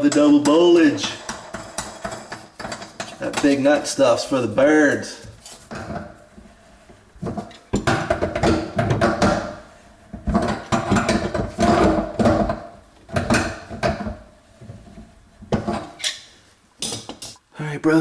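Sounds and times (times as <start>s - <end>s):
sink strainer rattling and scraping: 0.0s - 17.4s.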